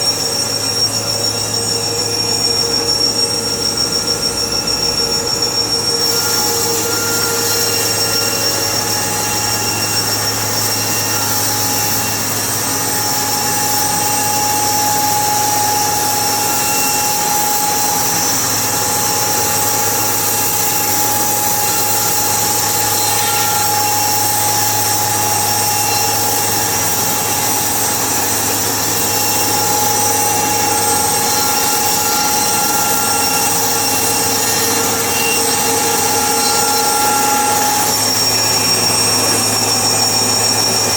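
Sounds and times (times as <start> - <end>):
sawmill machinery running: 0.0 - 40.9
whining tones: 0.0 - 40.9.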